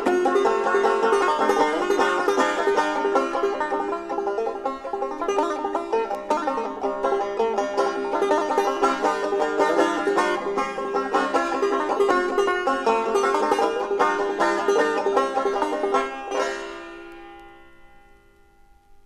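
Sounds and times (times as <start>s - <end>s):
banjo picking: 0.0s - 18.4s
guitar picking: 0.0s - 18.8s.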